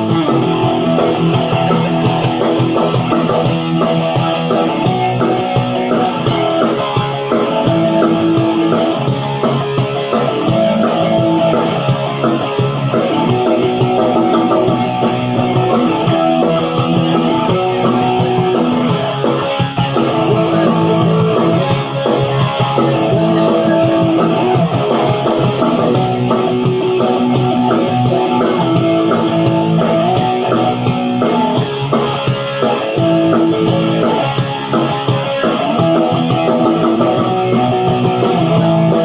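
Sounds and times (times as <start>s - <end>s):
electric guitar rock chords: 0.0s - 39.0s.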